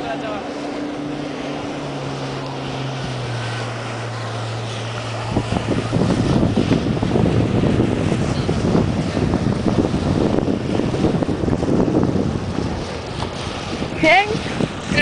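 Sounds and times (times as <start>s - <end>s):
jet ski engine humming: 0.0s - 15.0s
wind buffeting microphone: 0.0s - 15.0s.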